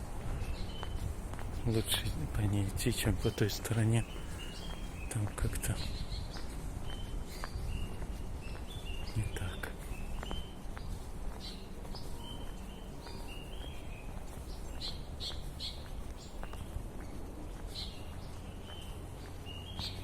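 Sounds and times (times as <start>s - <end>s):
steady low rumble: 0.0s - 19.9s
birds whistling and chirping: 0.1s - 20.0s.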